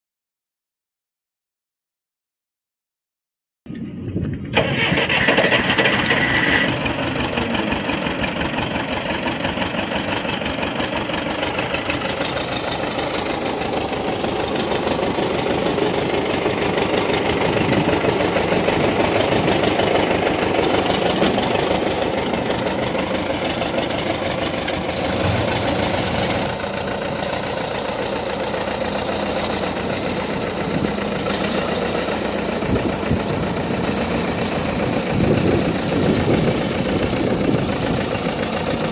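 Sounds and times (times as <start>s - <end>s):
tractor engine idling: 3.7s - 38.9s.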